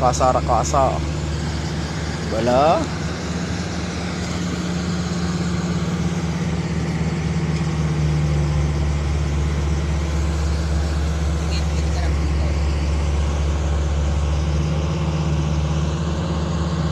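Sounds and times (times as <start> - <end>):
engine running: 0.0 - 16.9.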